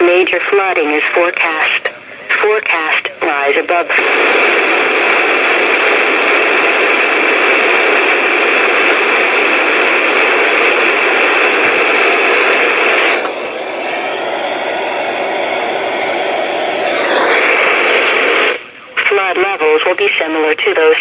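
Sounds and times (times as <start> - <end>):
radio static hiss: 0.0 - 13.9, 16.7 - 21.0.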